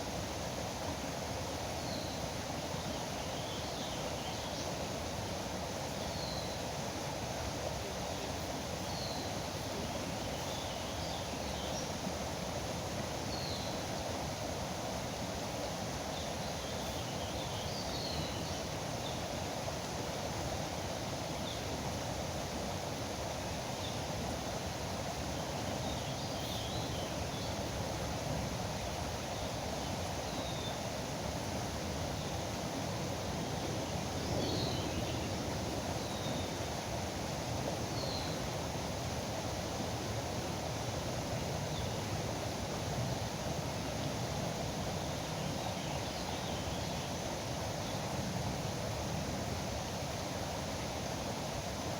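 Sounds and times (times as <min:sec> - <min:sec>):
river rushing: 0:00.0 - 0:51.9.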